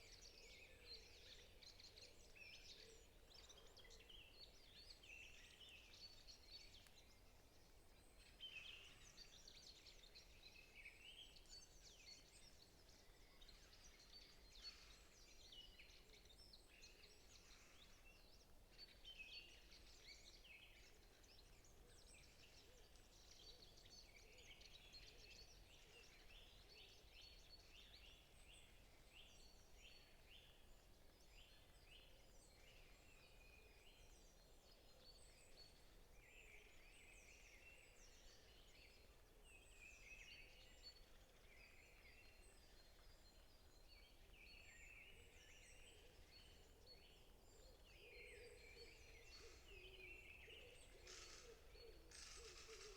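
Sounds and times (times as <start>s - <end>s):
low background hiss: 0.0s - 52.9s
small birds chirping: 0.0s - 52.9s.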